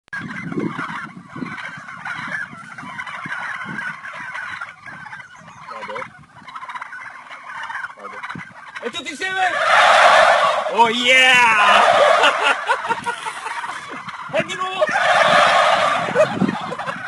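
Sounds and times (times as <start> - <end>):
turkeys gobbling: 0.2 - 17.0.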